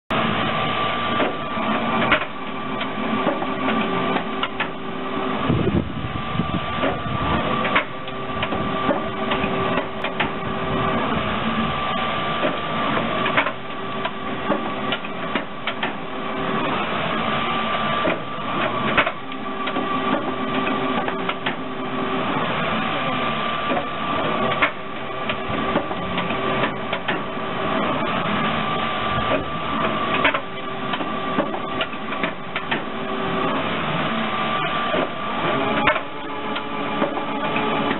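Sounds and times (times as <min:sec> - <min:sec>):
machine humming tone: 0:00.1 - 0:37.9.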